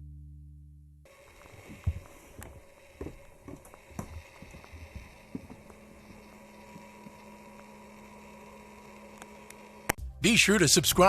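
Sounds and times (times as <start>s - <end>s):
steady low hum: 1.1s - 10.0s.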